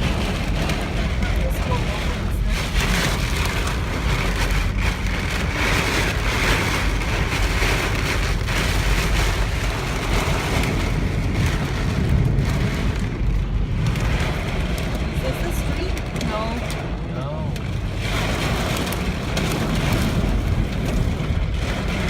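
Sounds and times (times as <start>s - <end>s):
heavy rain pelting car: 0.0s - 22.0s
low rumble: 0.0s - 22.0s
strong wind: 0.0s - 22.0s.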